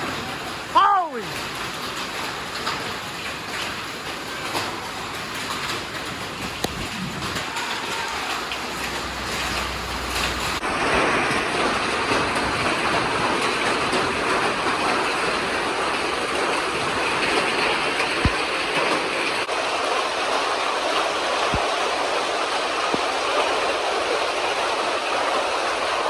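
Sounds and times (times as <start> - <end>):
wind-driven rain and hail: 0.0 - 26.0.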